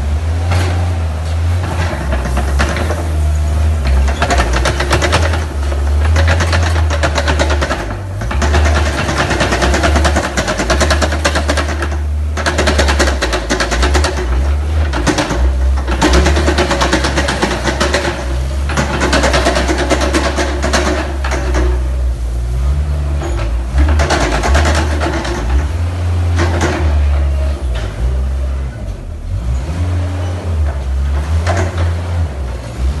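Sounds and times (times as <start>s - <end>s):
diesel engine rattling under load: 0.0s - 33.0s.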